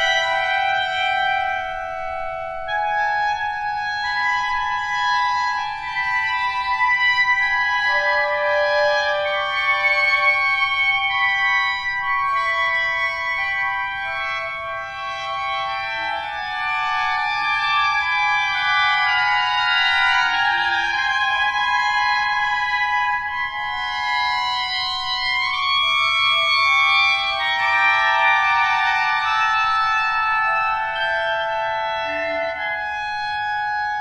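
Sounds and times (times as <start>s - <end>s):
clarinet ensemble: 0.0s - 34.0s.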